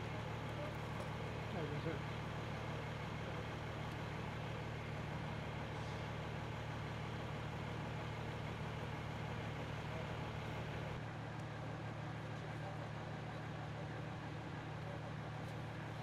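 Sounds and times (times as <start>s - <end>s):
outdoor background noise: 0.0s - 16.0s
vehicle engine idling: 0.0s - 16.0s.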